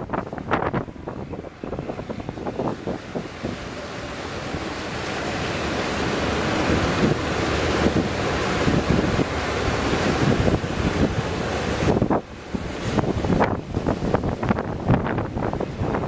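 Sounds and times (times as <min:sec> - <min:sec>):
breaking surf: 0:00.0 - 0:16.0
wind buffeting microphone: 0:00.0 - 0:16.0.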